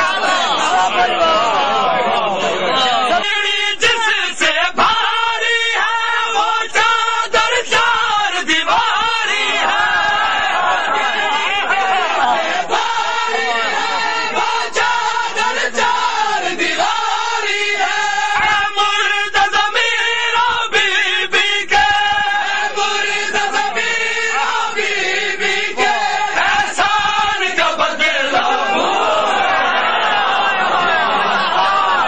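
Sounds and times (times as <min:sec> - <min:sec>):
men chanting a lament: 0:00.0 - 0:32.0.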